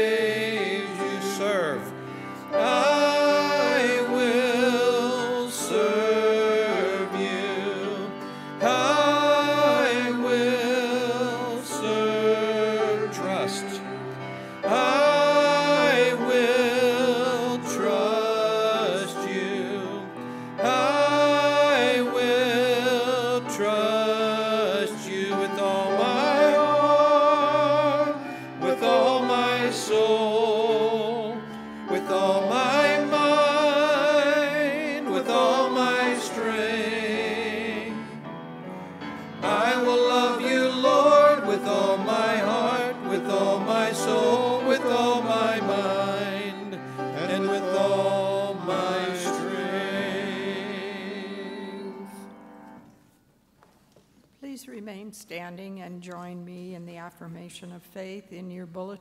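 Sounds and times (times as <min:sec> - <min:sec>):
worship singers singing: 0:00.0 - 0:52.9
piano accompaniment: 0:00.0 - 0:53.0.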